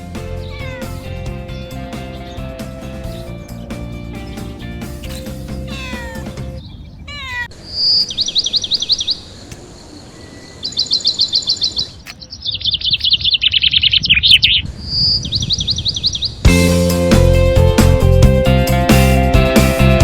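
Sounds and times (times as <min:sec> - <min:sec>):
songbird chirping: 0:00.0 - 0:16.4.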